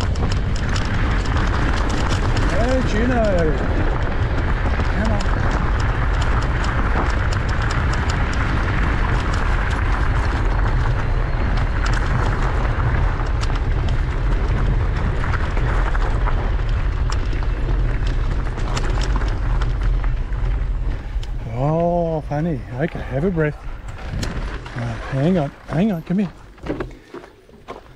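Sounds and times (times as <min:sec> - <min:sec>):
wind buffeting microphone: 0:00.0 - 0:26.6
bicycle tyres rolling on gravel: 0:00.0 - 0:27.9
stones ticking under wheels: 0:00.0 - 0:27.9.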